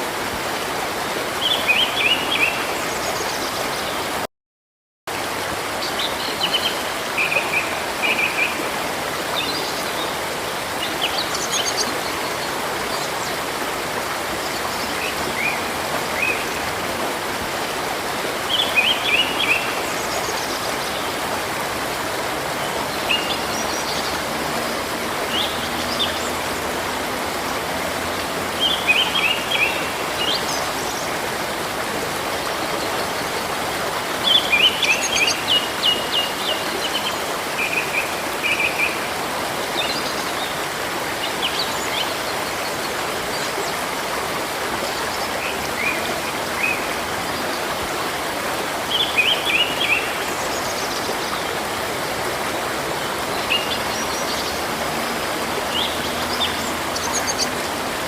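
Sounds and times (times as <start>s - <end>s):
river water rushing: 0.0s - 4.3s, 5.1s - 58.0s.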